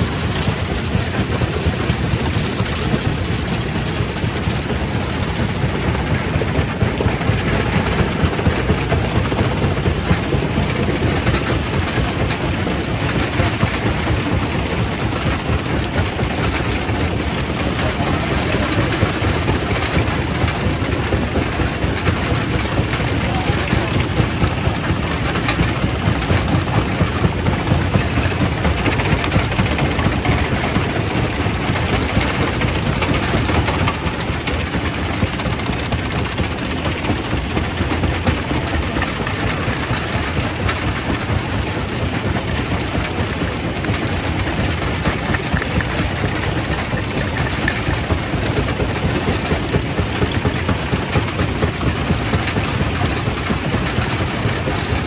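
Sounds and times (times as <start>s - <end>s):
rock crusher rumbling: 0.0s - 55.0s.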